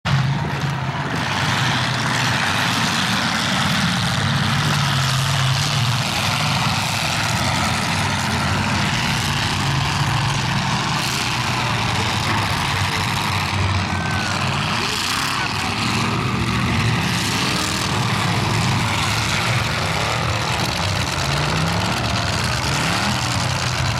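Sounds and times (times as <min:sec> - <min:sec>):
car engines droning: 0:00.0 - 0:23.9.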